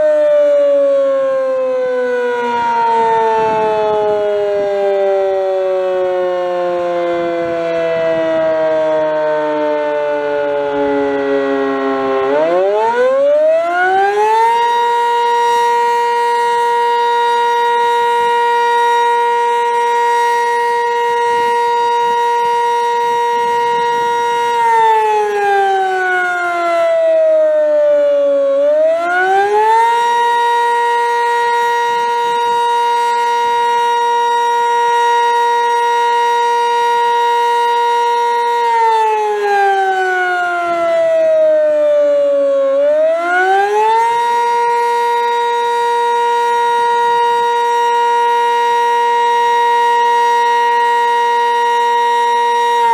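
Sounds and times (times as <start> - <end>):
two-tone warning siren: 0.0 - 52.9.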